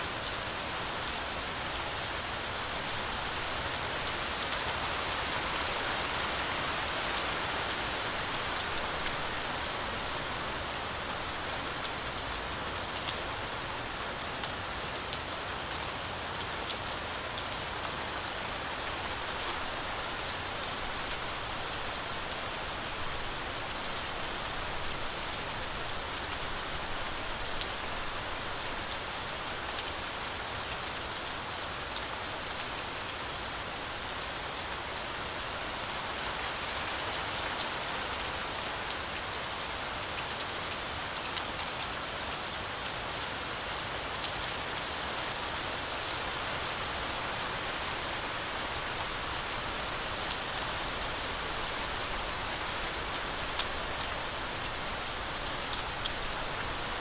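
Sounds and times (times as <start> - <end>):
heavy rain on forest canopy: 0.0 - 57.0.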